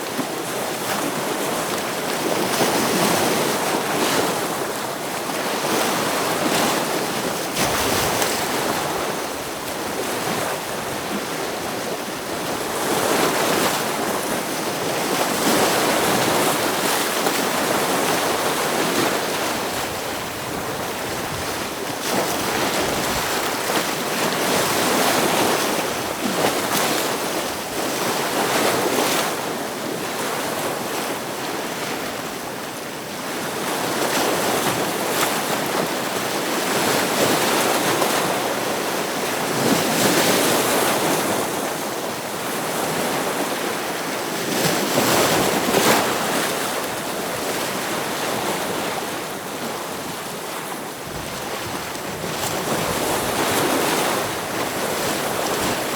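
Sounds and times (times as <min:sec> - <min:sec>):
ocean waves breaking on rocks: 0:00.0 - 0:55.9.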